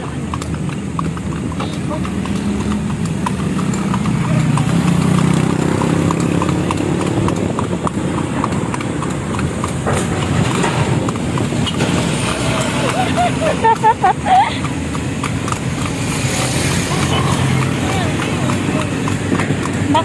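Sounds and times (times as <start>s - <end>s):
horse hooves clip-clopping on road: 0.0s - 20.0s
vehicle engine rumbling: 0.0s - 20.0s.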